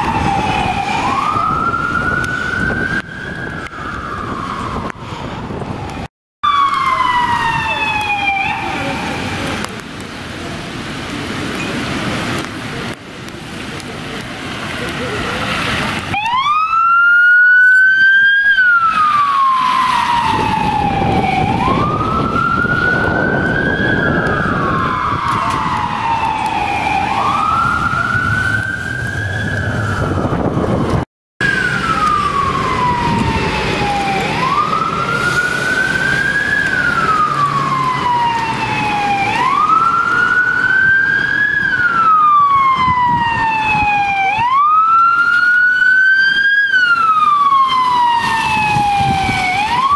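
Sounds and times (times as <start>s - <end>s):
police siren wailing: 0.0s - 9.8s, 16.0s - 49.9s
road noise: 0.0s - 49.9s.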